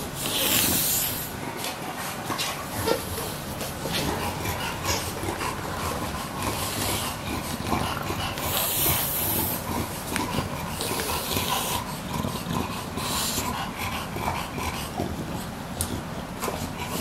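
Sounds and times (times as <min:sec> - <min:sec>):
dog breathing noisily: 0:00.0 - 0:17.0.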